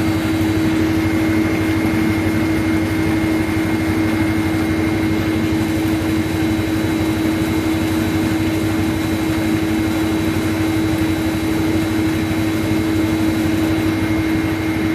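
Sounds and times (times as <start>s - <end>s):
low machine drone: 0.0s - 14.9s.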